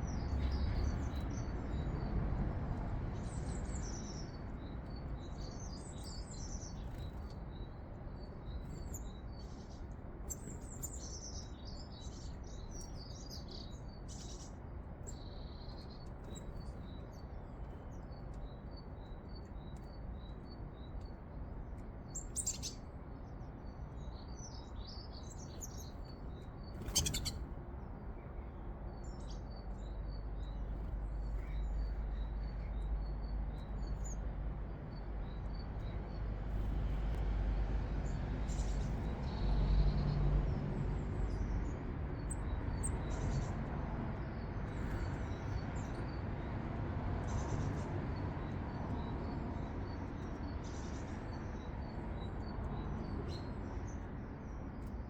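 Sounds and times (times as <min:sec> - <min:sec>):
small birds chirping: 0:02.7 - 0:37.2, 0:38.0 - 0:55.0.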